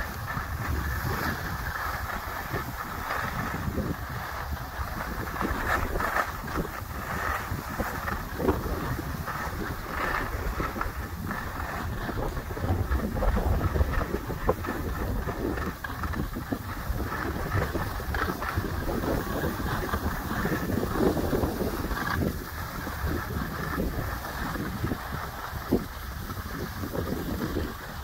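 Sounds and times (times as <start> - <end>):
skis scraping over packed snow: 0.0 - 28.0
wind buffeting microphone: 0.0 - 28.0.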